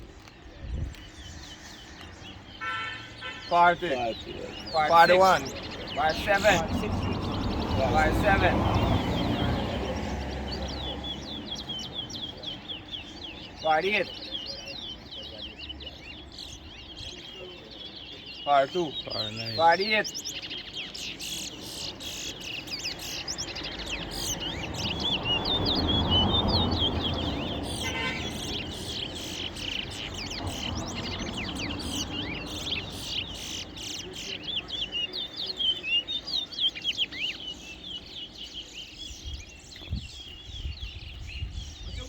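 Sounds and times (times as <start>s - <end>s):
finches chirping and twittering: 0.0s - 42.0s.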